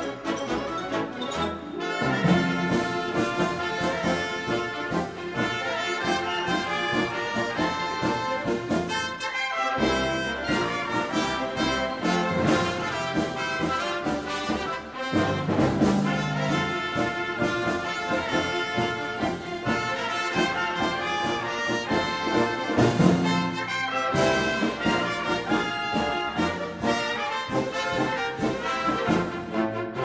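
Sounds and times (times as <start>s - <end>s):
brass music with steady beat: 0.0s - 30.0s.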